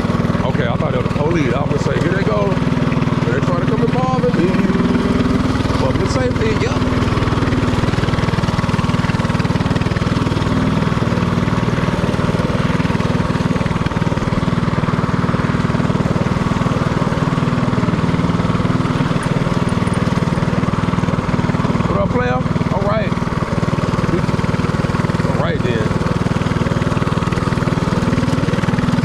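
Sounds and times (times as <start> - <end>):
mini-bike engine running: 0.0 - 29.0.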